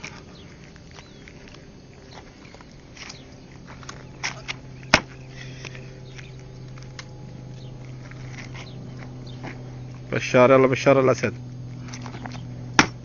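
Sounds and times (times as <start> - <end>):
hands and feet striking dirt: 0.0 - 13.0.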